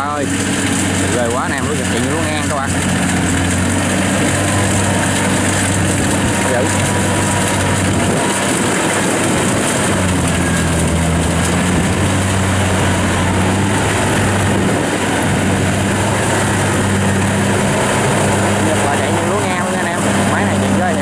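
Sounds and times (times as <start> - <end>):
diesel engine drone: 0.0 - 21.0
rush of machinery: 0.0 - 21.0.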